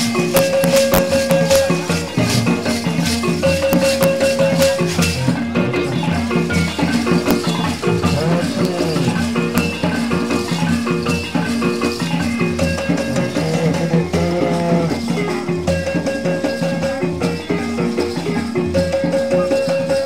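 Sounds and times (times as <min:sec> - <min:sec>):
drums: 0:00.0 - 0:20.0
shaken rattles: 0:00.0 - 0:20.0.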